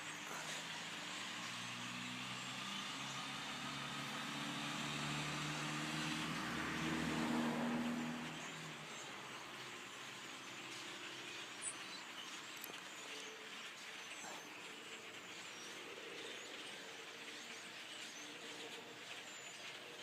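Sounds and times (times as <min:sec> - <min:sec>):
flock of birds chirping: 0:00.0 - 0:20.0
vehicle engine hum: 0:00.0 - 0:20.0.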